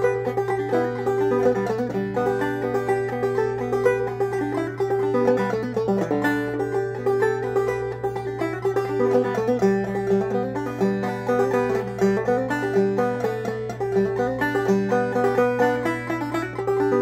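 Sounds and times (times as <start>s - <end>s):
banjo plucked melody: 0.0s - 17.0s.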